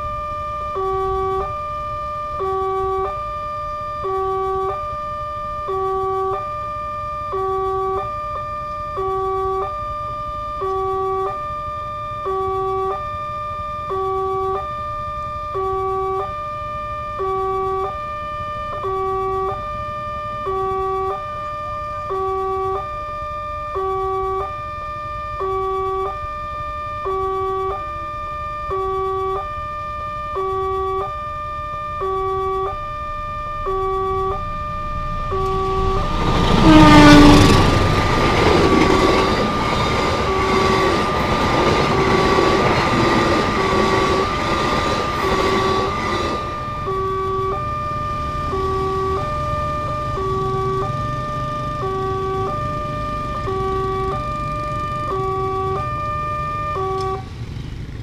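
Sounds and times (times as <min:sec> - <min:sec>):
two-note crossing warning alarm: 0:00.0 - 0:57.4.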